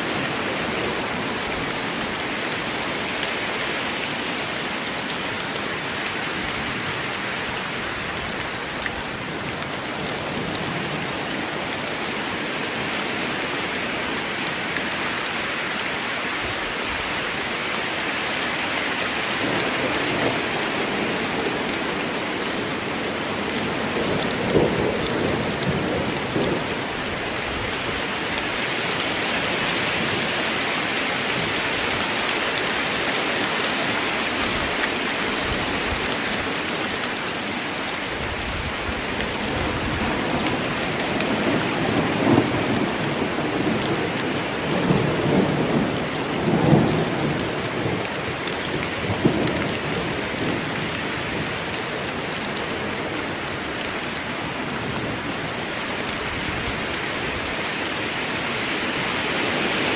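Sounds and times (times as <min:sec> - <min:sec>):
heavy rain in forest: 0:00.0 - 0:59.9.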